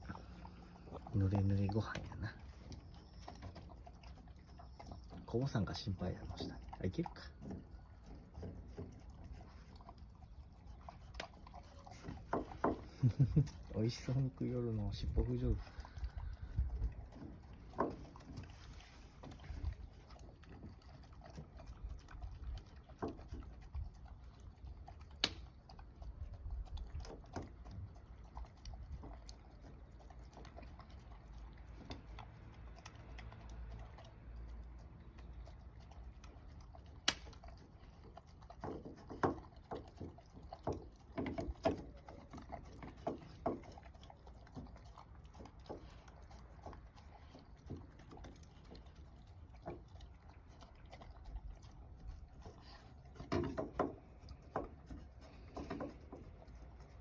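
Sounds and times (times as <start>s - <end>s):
dog chewing and smacking: 0.0s - 57.0s.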